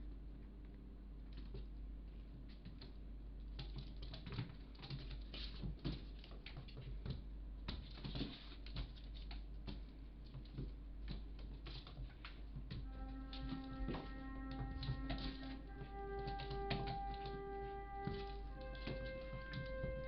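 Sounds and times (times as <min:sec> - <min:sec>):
cat paws pattering and scrabbling: 0:01.2 - 0:20.0.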